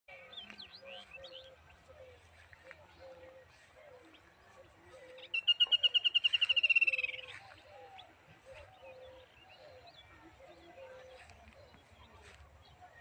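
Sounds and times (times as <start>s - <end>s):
faint low bird calls: 0.1s - 13.0s.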